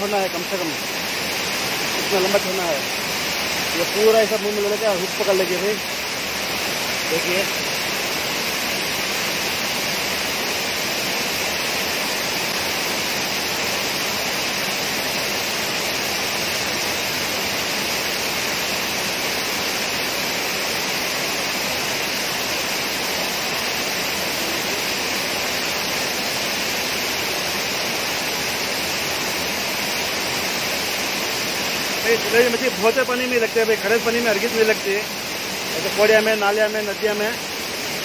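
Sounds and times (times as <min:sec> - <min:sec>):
water rushing over weir: 0:00.0 - 0:38.0.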